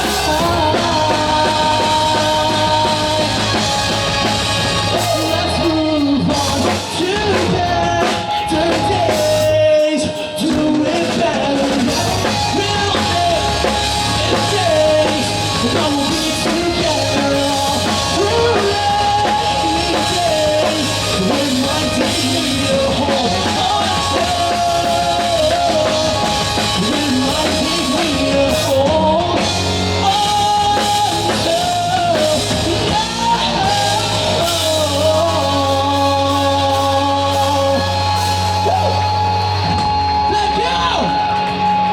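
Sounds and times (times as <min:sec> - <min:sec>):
live rock band playing: 0:00.0 - 0:41.9
person singing: 0:00.0 - 0:41.9.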